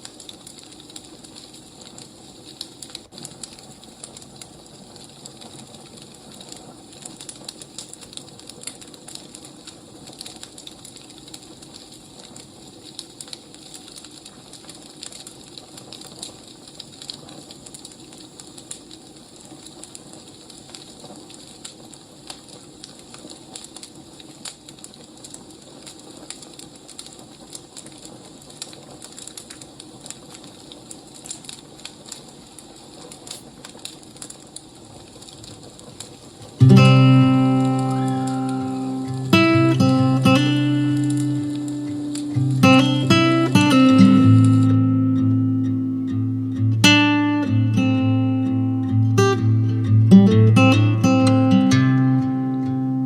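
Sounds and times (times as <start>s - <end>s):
fire hissing softly: 0.0s - 53.0s
wood fire crackling and popping: 0.0s - 53.0s.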